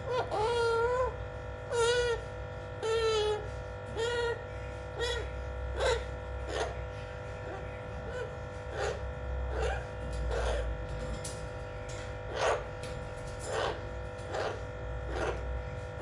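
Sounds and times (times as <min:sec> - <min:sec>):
parrot harsh calls: 0:00.0 - 0:11.3, 0:12.0 - 0:16.0.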